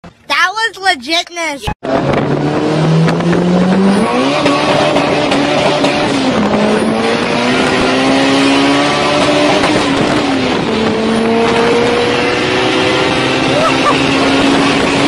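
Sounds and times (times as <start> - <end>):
car engine at full throttle: 1.8 - 15.0.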